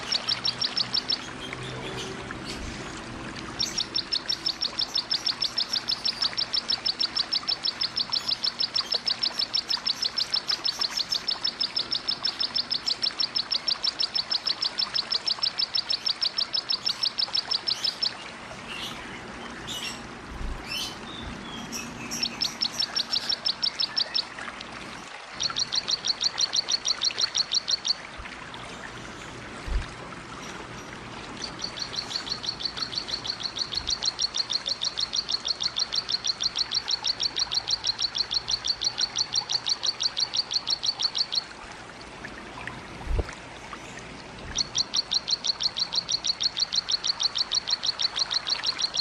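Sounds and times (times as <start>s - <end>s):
running water hiss: 0.0s - 49.0s.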